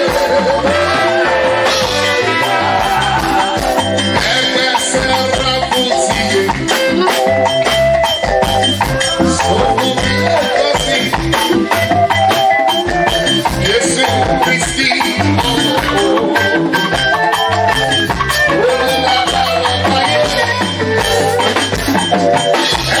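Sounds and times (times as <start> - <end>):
live band playing praise music: 0.0 - 23.0
percussion beat: 0.0 - 23.0.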